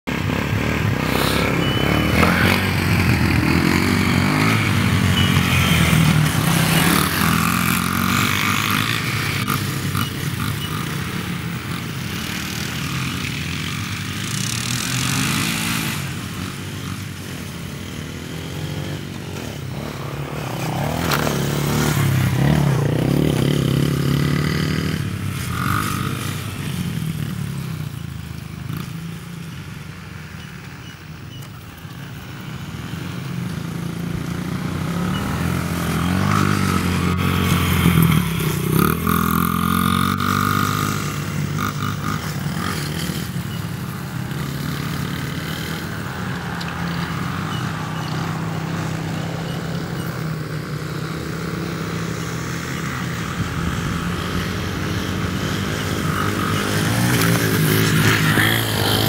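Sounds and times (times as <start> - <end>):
dirt bike engine revving: 0.1 - 28.0, 32.6 - 59.0.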